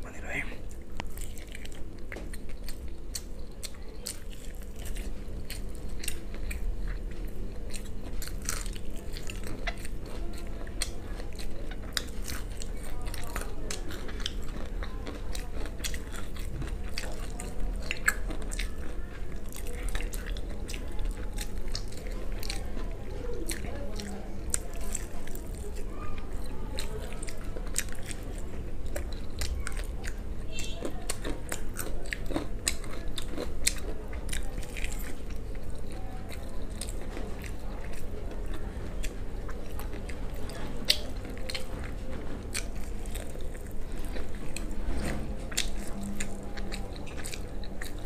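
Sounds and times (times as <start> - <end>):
crunching fried chicken: 0.0 - 48.0.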